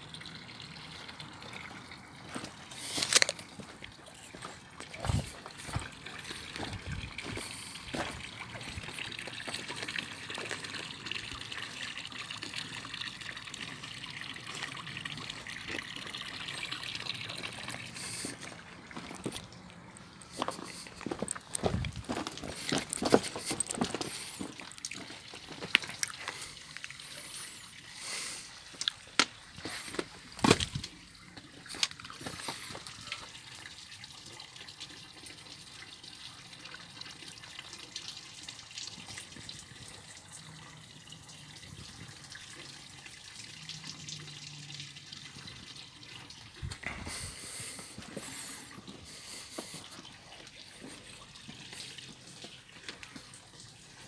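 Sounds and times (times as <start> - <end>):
water dripping and trickling: 0.0 - 54.0.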